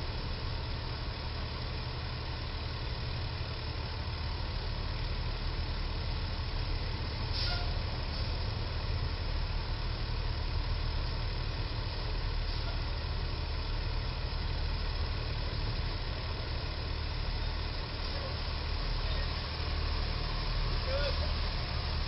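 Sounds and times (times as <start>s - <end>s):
truck engines idling: 0.0s - 22.0s.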